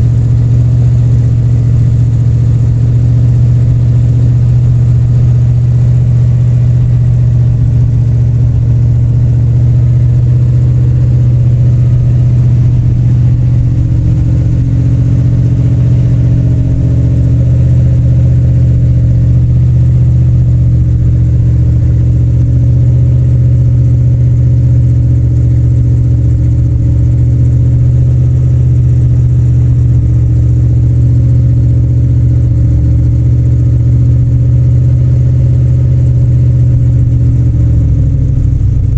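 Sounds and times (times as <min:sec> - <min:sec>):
car engine idling rumble: 0:00.0 - 0:38.9.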